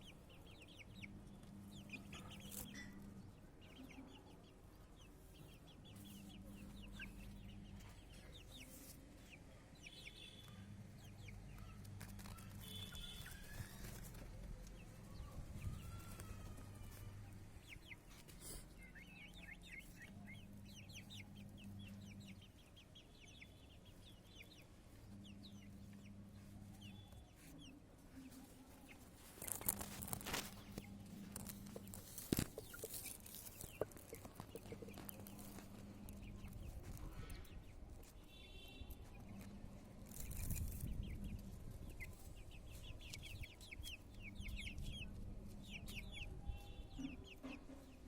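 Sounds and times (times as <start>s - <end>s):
chickens clucking: 0.0s - 38.2s, 38.9s - 48.0s
chicks cheeping: 0.0s - 48.0s.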